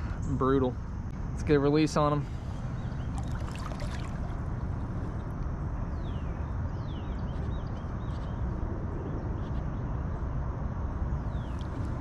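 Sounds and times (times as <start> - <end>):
wind rumbling on microphone: 0.8 - 12.0.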